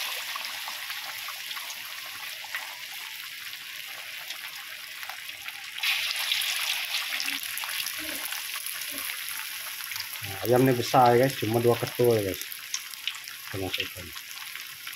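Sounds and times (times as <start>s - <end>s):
chicken deep-frying in oil: 0.0s - 14.9s.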